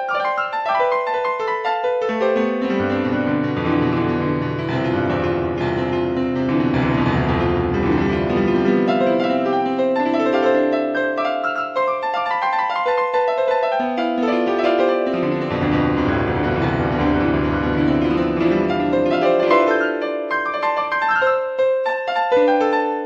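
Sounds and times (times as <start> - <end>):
solo piano music: 0.0 - 23.0.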